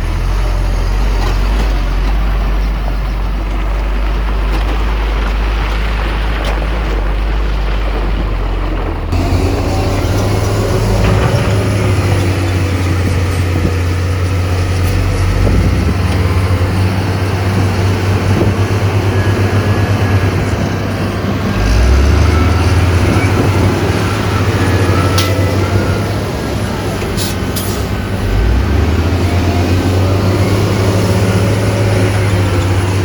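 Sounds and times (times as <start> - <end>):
heavy diesel engine rumbling: 0.0 - 33.0.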